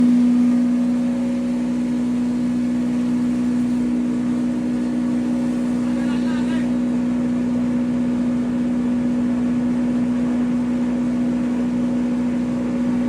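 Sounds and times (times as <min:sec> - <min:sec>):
grinding machine humming: 0:00.0 - 0:13.0.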